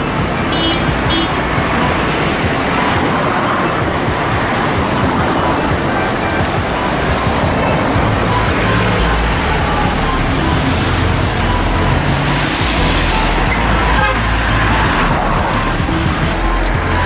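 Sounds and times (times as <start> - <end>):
background music with bass line: 0.0 - 17.0
road traffic noise: 0.0 - 17.0.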